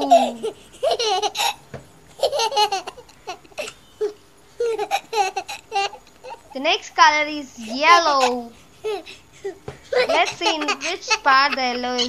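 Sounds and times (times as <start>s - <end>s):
baby laughing and babbling: 0.0s - 1.6s, 2.2s - 6.6s, 7.6s - 12.0s.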